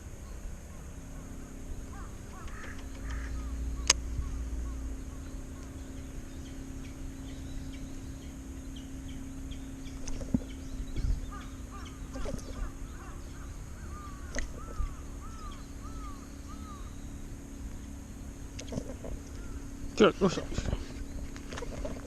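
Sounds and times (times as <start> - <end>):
bird calling: 0.0 - 22.0
low hum: 0.0 - 22.0.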